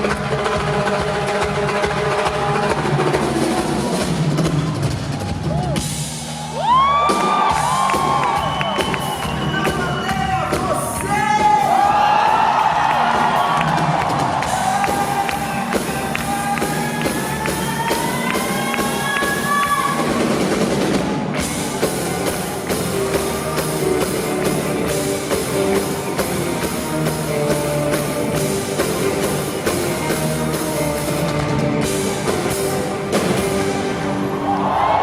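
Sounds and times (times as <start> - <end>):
live band playing pop-rock: 0.0 - 35.0.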